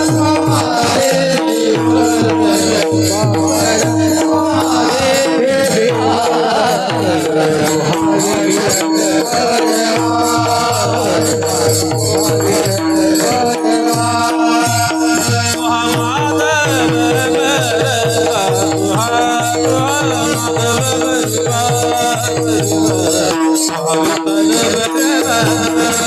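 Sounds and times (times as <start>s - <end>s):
jingling percussion: 0.0s - 26.0s
steady drum rhythm: 0.0s - 26.0s.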